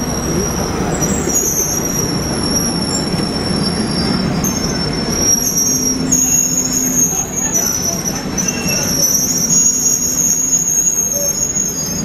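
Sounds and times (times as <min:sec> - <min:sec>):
high-pitched wheel squeal: 0:00.0 - 0:12.0
train wheels rumbling on rail: 0:00.0 - 0:12.0.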